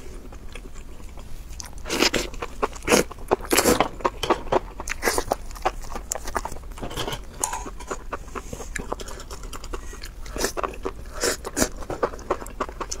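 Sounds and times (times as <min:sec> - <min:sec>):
wet chewing and biting: 0:00.0 - 0:13.0.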